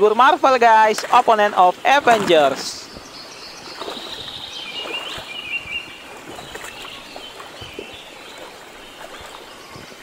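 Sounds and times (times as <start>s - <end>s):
stream trickling over stones: 0.0s - 10.0s.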